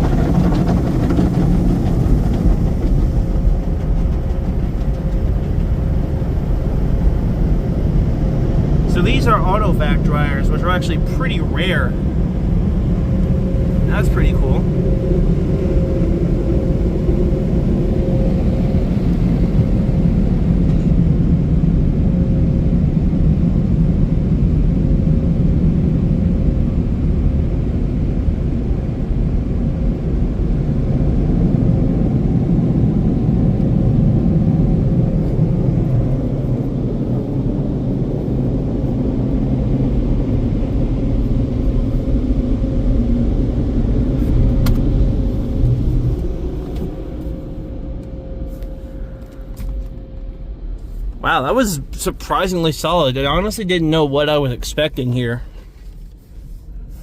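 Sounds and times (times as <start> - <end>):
car wash blowers rumbling: 0.0 - 57.0
faint steady hum: 4.9 - 57.0.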